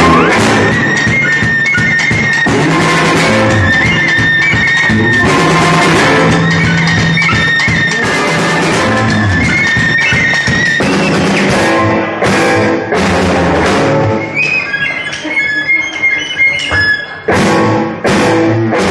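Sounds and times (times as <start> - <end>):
loud band music: 0.0 - 18.9.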